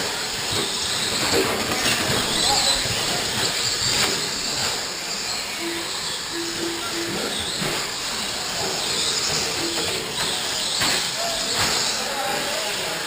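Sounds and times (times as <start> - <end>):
rc trucks motor whine: 0.0 - 13.0.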